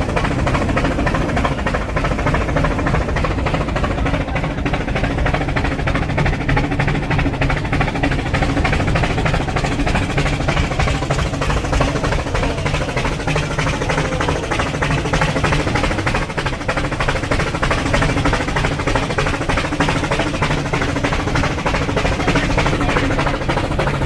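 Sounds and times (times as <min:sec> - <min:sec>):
locomotive mechanical clatter: 0:00.0 - 0:24.0
steam locomotive exhaust puffs: 0:00.0 - 0:24.0.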